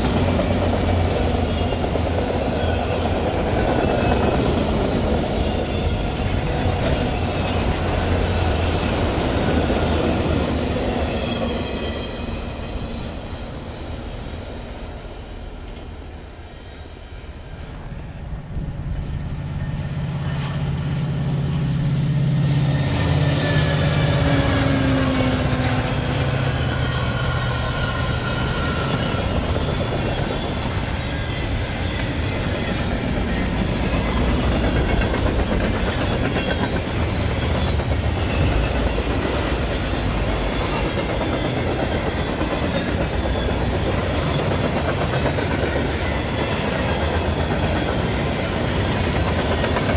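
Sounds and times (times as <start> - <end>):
diesel locomotive engines droning: 0.0 - 49.9.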